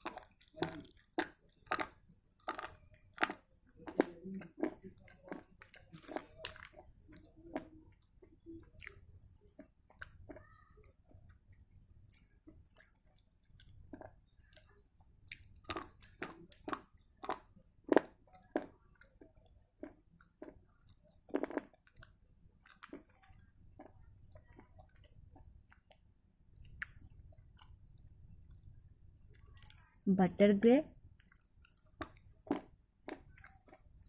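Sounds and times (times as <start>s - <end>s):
crunching and chewing clay: 0.0s - 30.0s, 31.0s - 34.0s.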